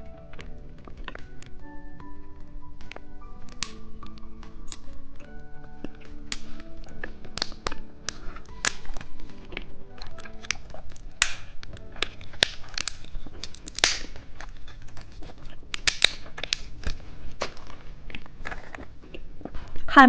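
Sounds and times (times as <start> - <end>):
chewing gummy candy: 3.6 - 19.9.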